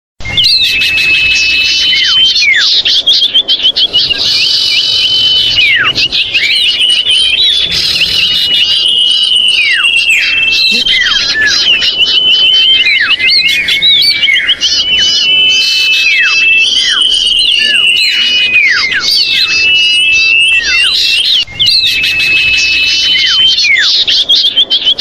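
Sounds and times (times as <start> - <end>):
birds chattering and trilling: 0.2 - 25.0.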